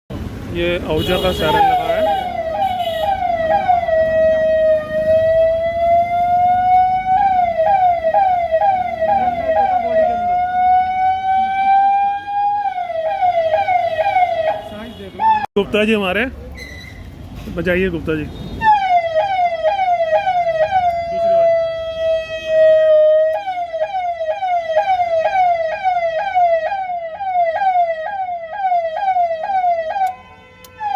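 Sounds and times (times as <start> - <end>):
siren chirps and wail: 1.4 - 15.5, 18.6 - 30.9.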